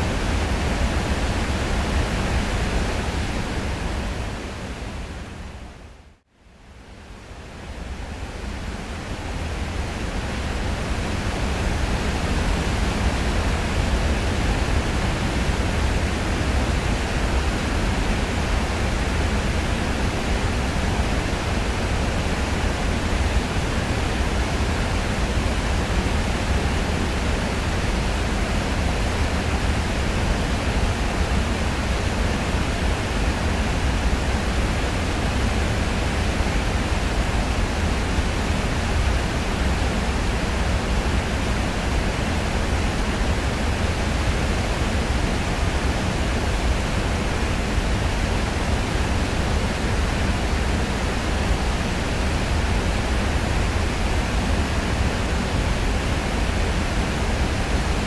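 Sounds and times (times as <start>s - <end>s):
waterfall rushing: 9.6s - 58.0s.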